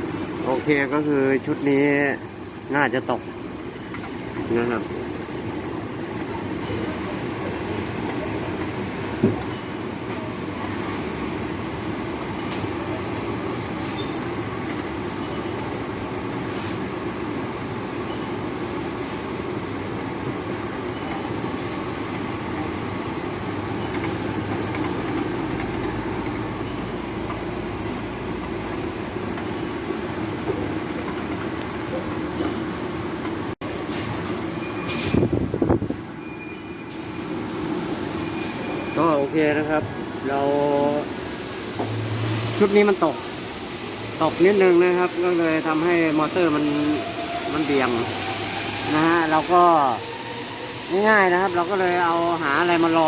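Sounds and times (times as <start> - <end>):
air conditioner blower fan rumble: 0.0 - 53.0.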